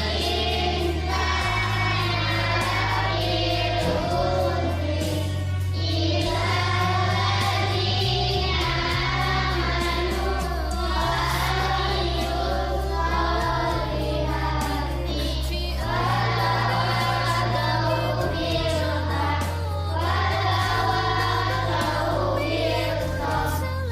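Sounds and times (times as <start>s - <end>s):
held bass notes: 0.0s - 19.4s
group singing devotional song: 0.0s - 23.9s.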